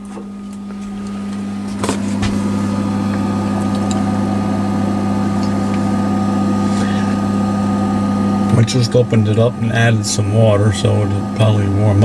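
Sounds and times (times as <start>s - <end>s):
engine idling: 0.5s - 12.0s.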